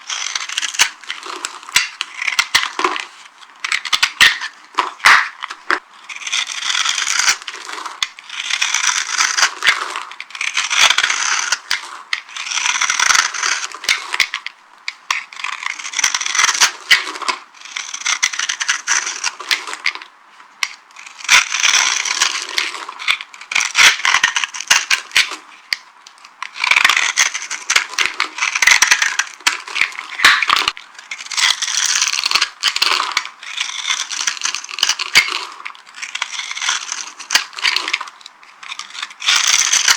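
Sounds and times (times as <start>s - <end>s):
dry soap crunching: 0.0s - 39.9s.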